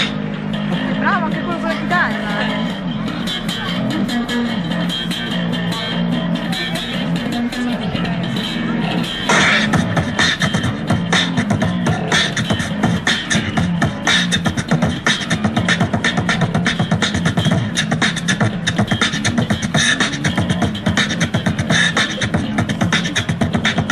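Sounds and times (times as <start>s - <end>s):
amplified beatboxing: 0.0s - 23.9s
electric bass guitar: 0.0s - 23.9s.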